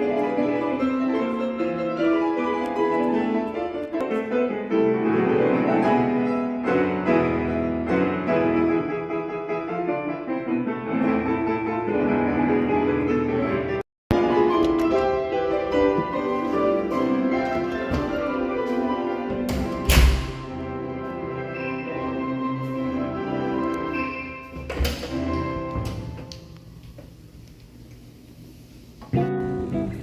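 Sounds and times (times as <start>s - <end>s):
gentle classical piano and strings: 0.0s - 26.2s.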